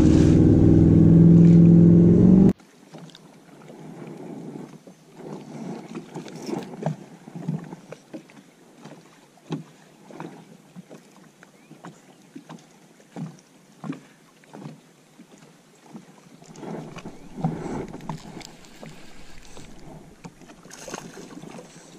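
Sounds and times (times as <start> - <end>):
small waves lapping against hull: 0.0 - 21.9.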